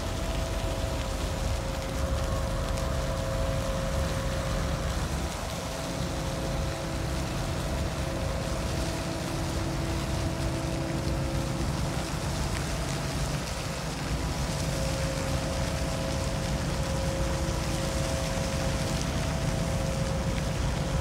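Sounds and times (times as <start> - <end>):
humming tones: 0.0 - 21.0
ship machinery rumble: 0.0 - 21.0.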